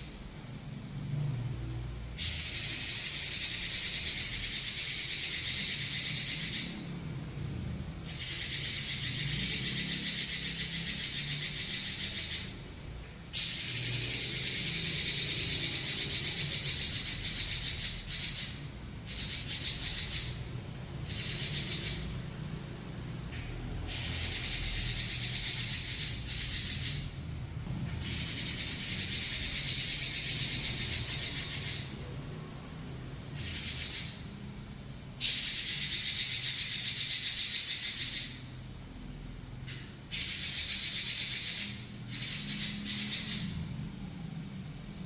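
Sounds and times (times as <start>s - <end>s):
bird singing rolling trills: 2.2s - 27.4s, 28.0s - 38.9s, 40.1s - 45.0s.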